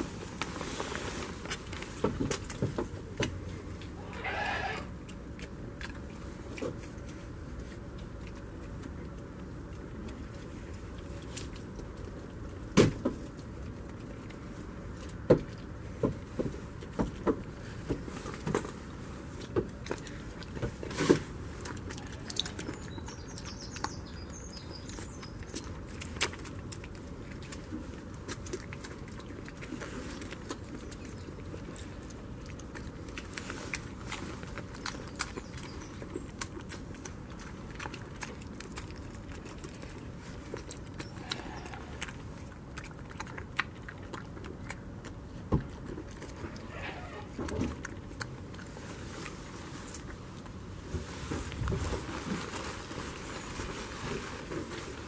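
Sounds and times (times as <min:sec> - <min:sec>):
goat chewing crunches: 0:00.0 - 0:55.0.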